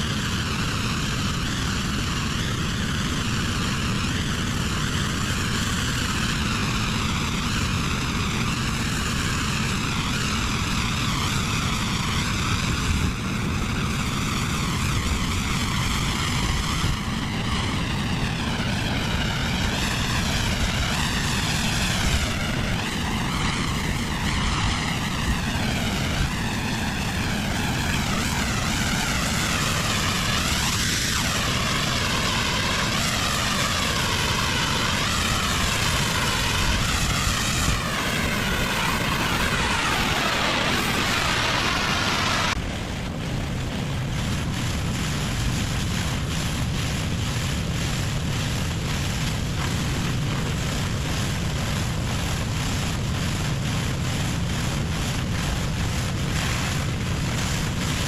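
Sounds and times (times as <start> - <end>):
high-pressure water spray hiss: 0.0 - 58.0
pressure washer engine drone: 0.0 - 58.0.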